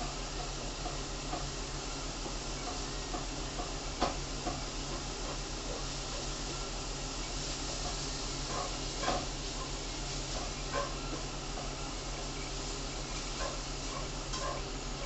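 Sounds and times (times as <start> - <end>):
printer fans whirring: 0.0 - 15.0.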